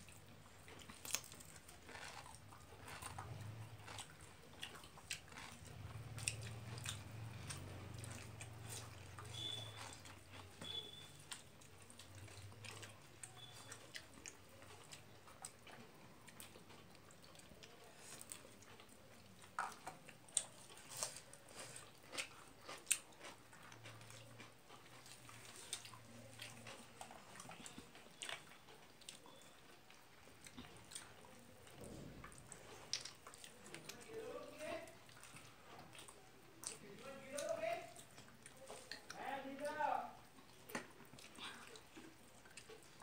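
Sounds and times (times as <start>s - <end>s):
person chewing food: 0.0s - 43.0s.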